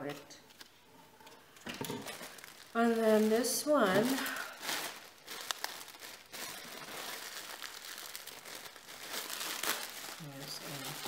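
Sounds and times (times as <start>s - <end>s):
plastic bag crinkling: 0.5s - 11.0s.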